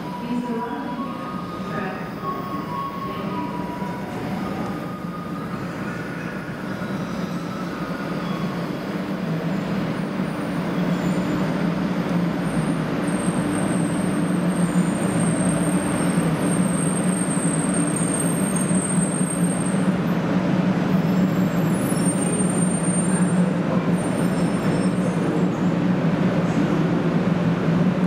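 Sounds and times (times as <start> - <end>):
train rumbling into platform: 0.0 - 28.0.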